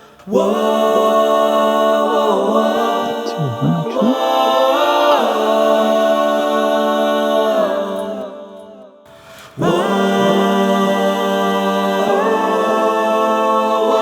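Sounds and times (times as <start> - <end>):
choir-like held chords: 0.0 - 9.0, 9.6 - 14.0.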